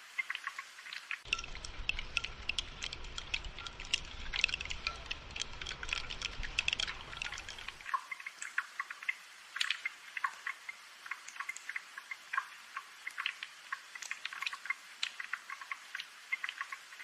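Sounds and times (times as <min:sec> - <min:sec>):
low rumble of rain: 0:00.0 - 0:17.0
rain drops pattering: 0:00.0 - 0:17.0.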